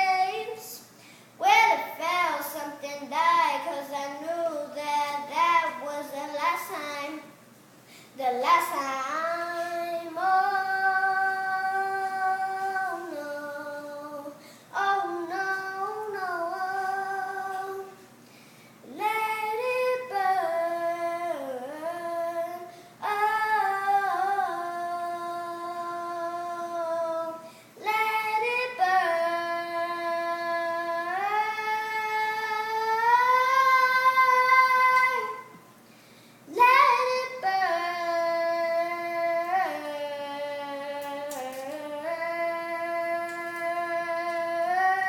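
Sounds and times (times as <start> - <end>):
boy singing a cappella: 0.0 - 7.4, 8.1 - 18.1, 18.8 - 35.6, 36.5 - 45.0.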